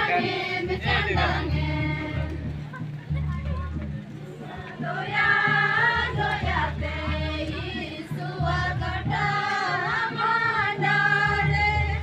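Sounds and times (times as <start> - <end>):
group of voices singing: 0.0 - 2.6, 4.8 - 12.0
music: 0.0 - 12.0.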